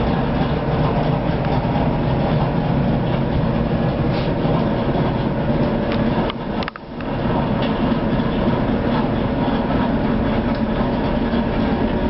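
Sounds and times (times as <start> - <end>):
train rumble and hum: 0.0 - 12.0.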